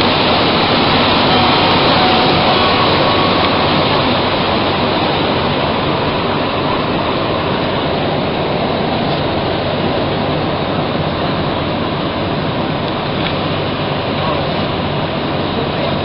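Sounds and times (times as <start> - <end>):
metro train tyres rushing on track: 0.0 - 16.0.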